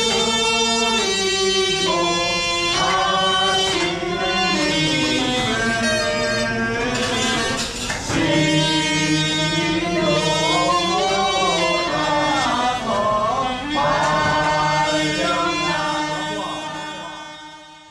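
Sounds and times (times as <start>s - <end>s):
slow melody with singing voices: 0.0s - 17.9s.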